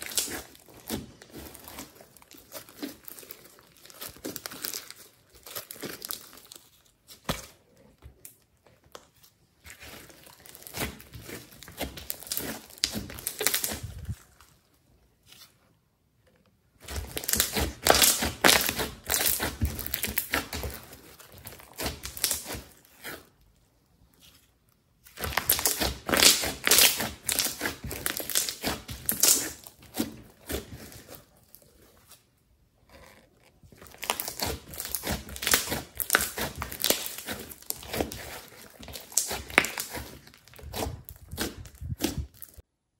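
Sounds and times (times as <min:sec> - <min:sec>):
slime squishing and crackling: 0:00.0 - 0:14.8, 0:16.8 - 0:42.7.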